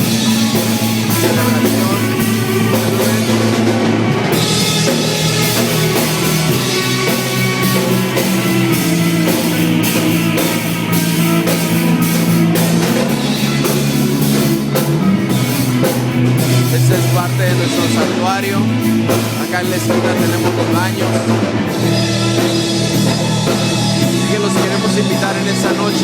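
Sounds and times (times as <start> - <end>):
drums beat: 0.0 - 26.0
rock band playing: 0.0 - 26.0.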